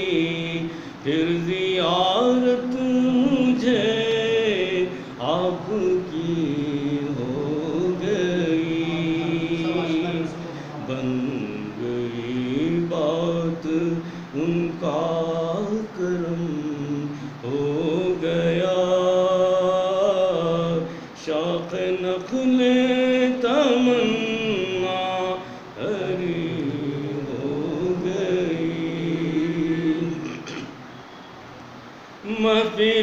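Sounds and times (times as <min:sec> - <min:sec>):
man singing devotional chant: 0:00.0 - 0:30.7, 0:32.2 - 0:33.0.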